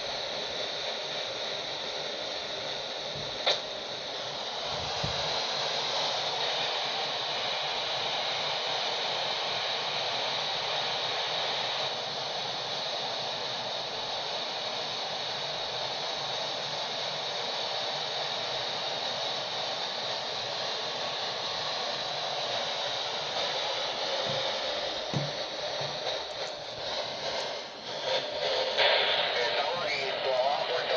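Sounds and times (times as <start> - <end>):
radio static hiss: 0.0 - 30.9.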